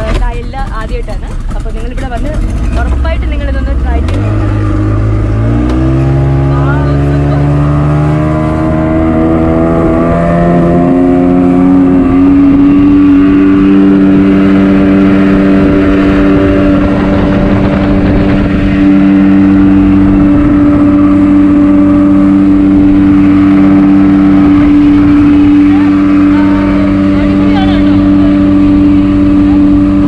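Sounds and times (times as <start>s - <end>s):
speedboat engine accelerating: 0.0s - 30.0s
wind buffeting microphone: 0.0s - 30.0s.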